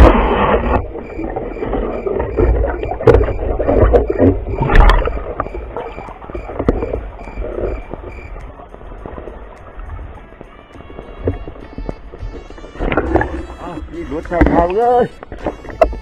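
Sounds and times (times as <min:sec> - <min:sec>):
muffled underwater sloshing: 0:00.0 - 0:16.0.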